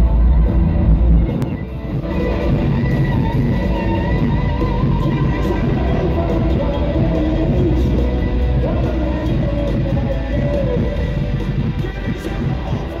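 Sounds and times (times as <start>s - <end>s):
electric guitar sliding in pitch: 0.0s - 13.0s
live rock band in a hall: 0.0s - 13.0s.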